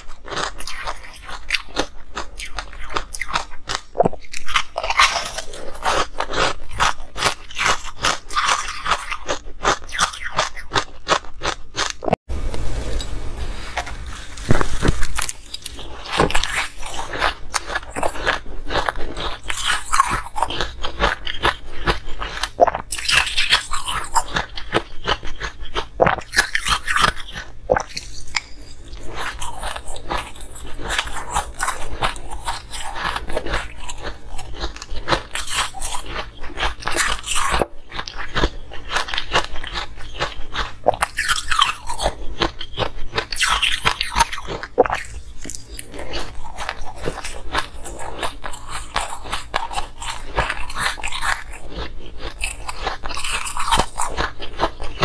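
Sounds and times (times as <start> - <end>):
crushed ice being chewed: 0.0 - 12.2, 13.8 - 55.0.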